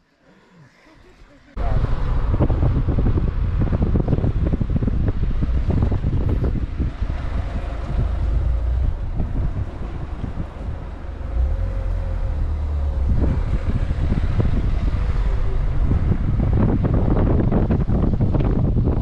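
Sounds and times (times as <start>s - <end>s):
wind buffeting microphone: 1.5s - 19.0s.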